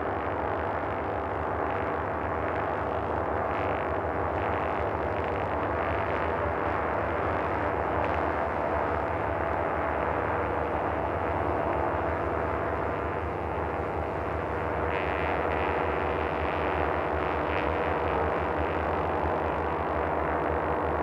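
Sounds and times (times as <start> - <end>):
droning synthesizer pad: 0.0 - 21.0.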